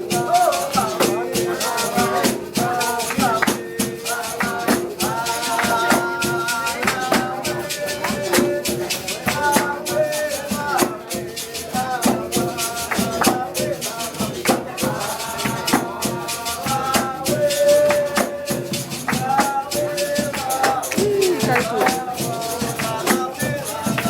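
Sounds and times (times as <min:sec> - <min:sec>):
people singing: 0:00.0 - 0:24.0
rapid shaking rattle percussion: 0:00.0 - 0:24.0.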